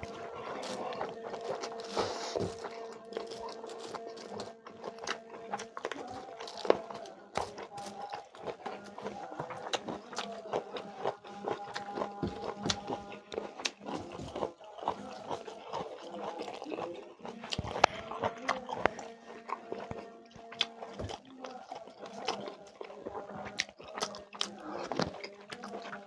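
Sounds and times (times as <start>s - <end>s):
person chewing and smacking: 0.0s - 26.0s.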